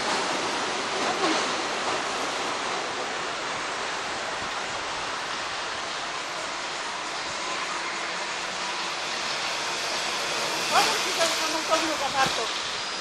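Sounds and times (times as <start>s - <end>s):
suspension railway car running: 0.0s - 13.0s.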